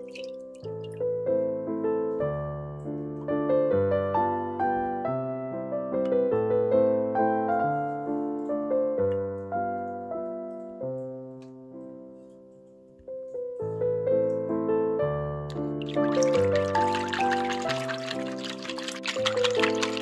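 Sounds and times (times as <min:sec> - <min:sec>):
gentle piano notes: 0:00.0 - 0:20.0.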